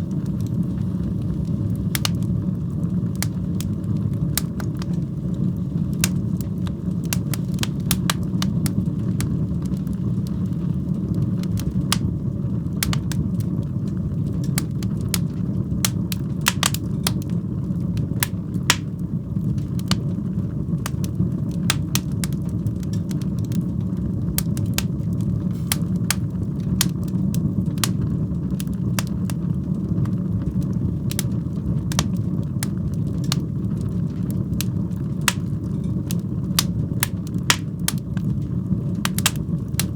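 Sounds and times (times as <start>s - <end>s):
fire crackling and popping: 0.0s - 39.9s
fire roaring: 0.0s - 39.9s.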